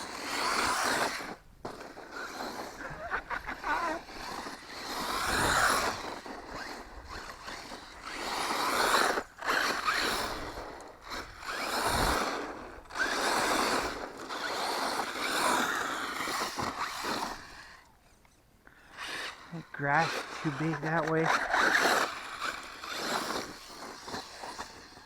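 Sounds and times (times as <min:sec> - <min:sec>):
rc truck motor driving through grass: 0:00.0 - 0:25.0.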